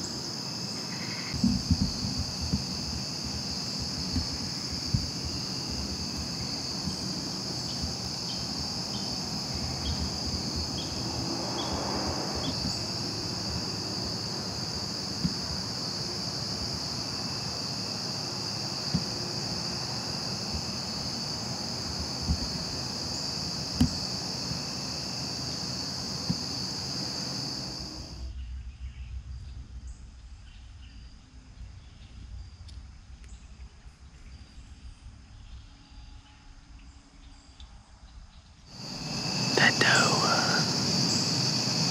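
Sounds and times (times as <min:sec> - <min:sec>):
insect chorus: 0:00.0 - 0:32.7, 0:38.7 - 0:41.9.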